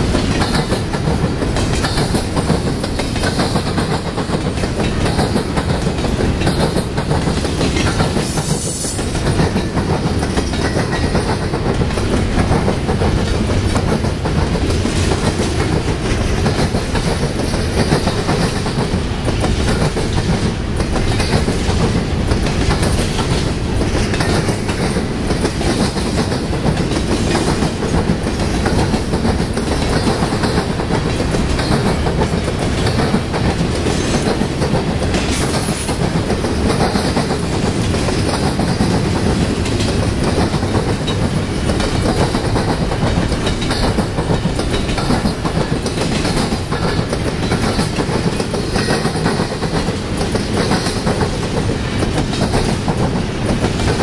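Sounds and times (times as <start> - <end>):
freight train rumbling past: 0.0 - 54.0
wheels clicking over rail joints: 0.0 - 54.0.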